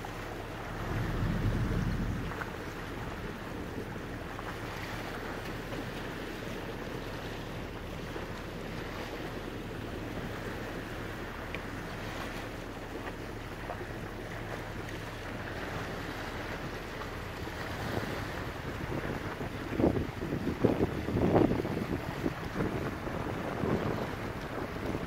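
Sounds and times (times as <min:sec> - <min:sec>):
low engine hum: 0:00.0 - 0:25.0
water rushing: 0:00.0 - 0:25.0
wind: 0:00.0 - 0:25.0.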